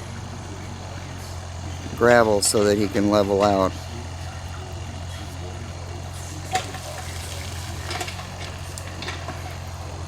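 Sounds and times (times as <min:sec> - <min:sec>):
excavator engine hum: 0:00.0 - 0:10.0.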